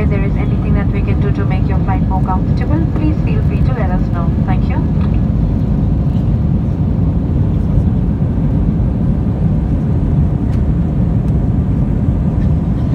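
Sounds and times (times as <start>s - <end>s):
jet engine rumble in cabin: 0.0s - 12.9s.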